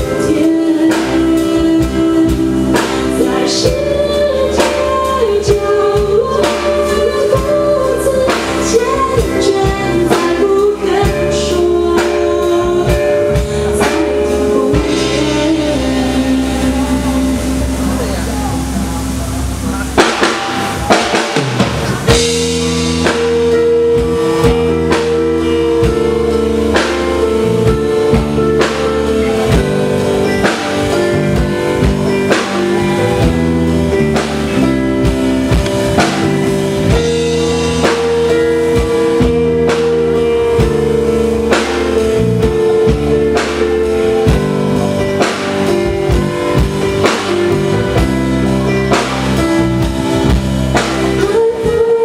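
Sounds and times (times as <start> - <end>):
bass line: 0.0 - 52.0
drum kit beat: 0.0 - 52.0
live rock band playing: 0.0 - 52.0.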